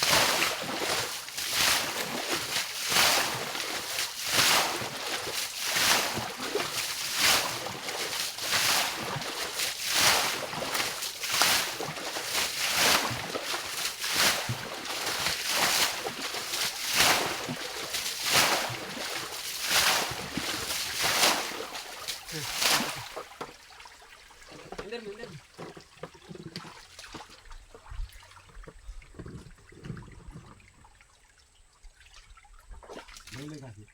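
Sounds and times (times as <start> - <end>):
water bailed out splashing: 0.0 - 33.9.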